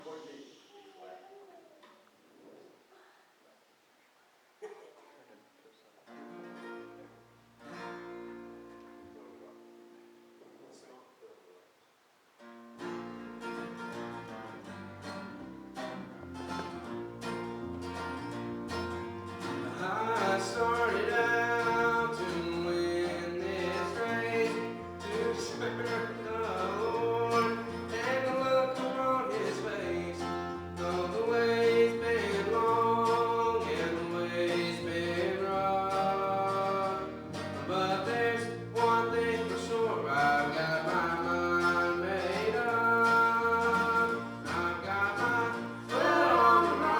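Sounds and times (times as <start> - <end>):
country music with guitar: 6.1 - 10.5, 12.4 - 46.9.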